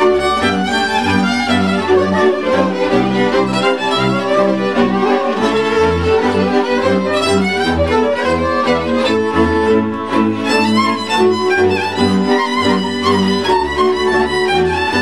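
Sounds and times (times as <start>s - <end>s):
double bass pulsing: 0.0s - 15.0s
fiddles bowing a melody: 0.0s - 15.0s
string chords: 0.0s - 15.0s.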